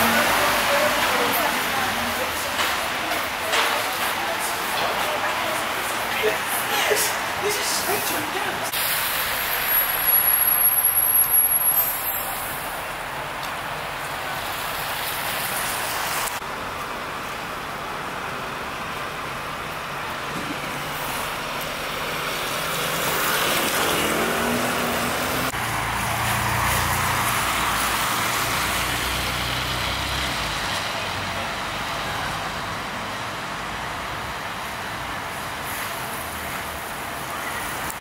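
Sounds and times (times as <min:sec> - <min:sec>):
tyres hissing on wet road: 0:00.0 - 0:38.0.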